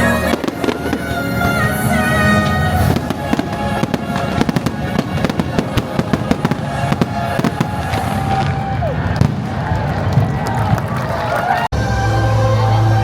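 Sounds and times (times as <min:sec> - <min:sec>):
orchestral music: 0:00.0 - 0:10.4, 0:11.2 - 0:13.0
fireworks bursting and crackling: 0:00.0 - 0:11.3.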